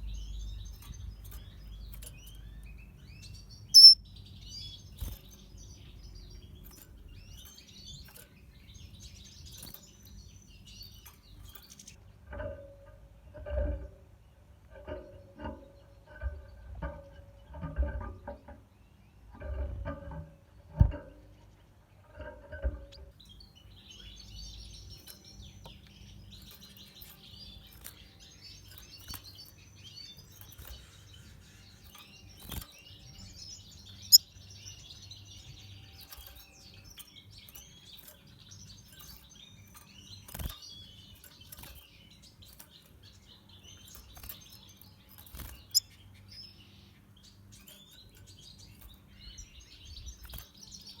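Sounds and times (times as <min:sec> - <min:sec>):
birds twittering and chirping: 0:00.0 - 0:51.0.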